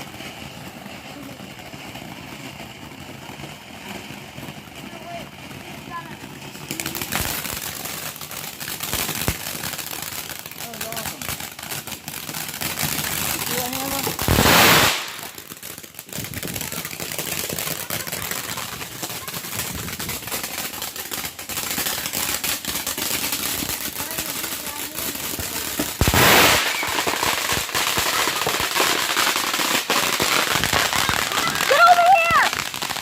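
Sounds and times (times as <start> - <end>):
fireworks crackling and popping: 0.0 - 33.0
loud firework blasts: 0.0 - 33.0.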